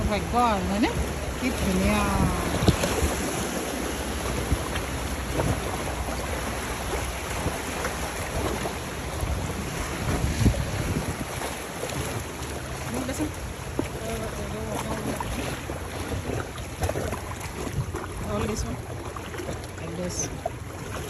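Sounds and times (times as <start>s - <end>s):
river water flowing and splashing: 0.0s - 21.0s
wind buffeting microphone: 0.0s - 21.0s.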